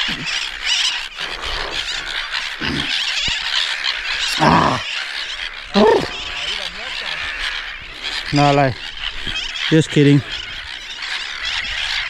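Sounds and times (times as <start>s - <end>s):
seabirds crying shrilly: 0.0s - 12.0s
short low bird calls: 0.0s - 12.0s.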